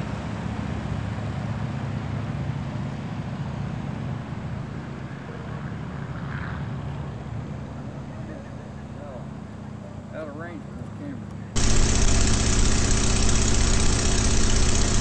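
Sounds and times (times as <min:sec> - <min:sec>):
biplane engine droning: 0:00.0 - 0:15.0.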